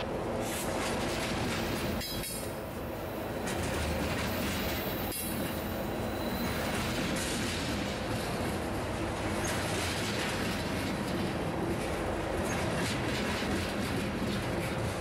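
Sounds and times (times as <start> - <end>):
train wheels clacking: 0.0 - 2.6, 3.3 - 8.6, 9.2 - 15.0
train wheels rumbling on rails: 0.0 - 15.0.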